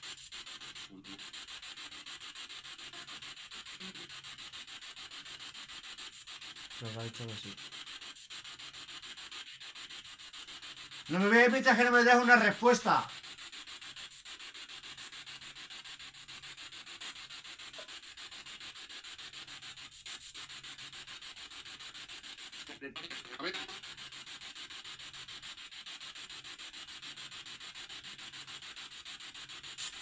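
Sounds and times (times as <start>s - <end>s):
recording hiss with flutter: 0.0s - 30.0s.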